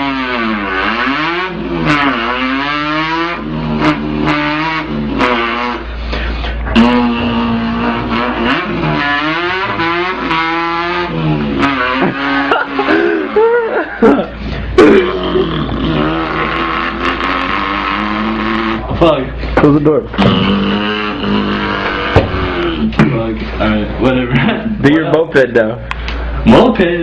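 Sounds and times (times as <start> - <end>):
man imitating revving car engine: 0.0 - 19.3, 19.9 - 23.3.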